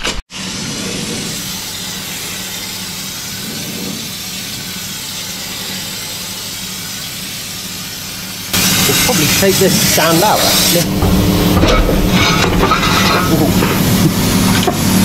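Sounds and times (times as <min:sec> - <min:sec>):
air spray gun hissing: 0:00.3 - 0:15.0.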